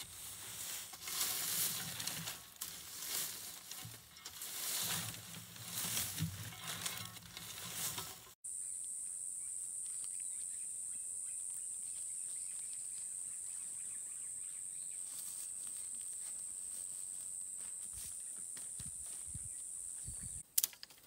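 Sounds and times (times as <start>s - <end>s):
cicadas droning: 0.0s - 20.4s.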